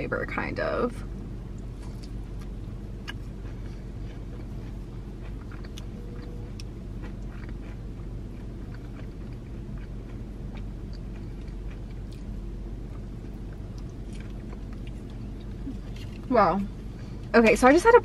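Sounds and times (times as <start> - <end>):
low car cabin hum: 0.0 - 18.0
person chewing: 1.6 - 16.3.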